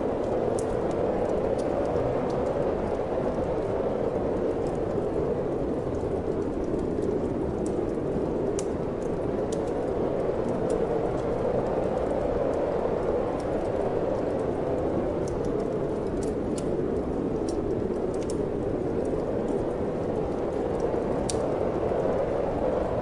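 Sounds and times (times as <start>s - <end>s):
rushing wind: 0.0s - 23.0s
wood fire crackling: 0.0s - 23.0s.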